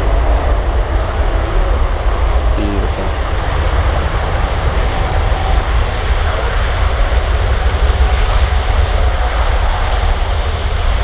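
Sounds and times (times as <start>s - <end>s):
jet engines reverse thrust rumble: 0.0s - 11.0s.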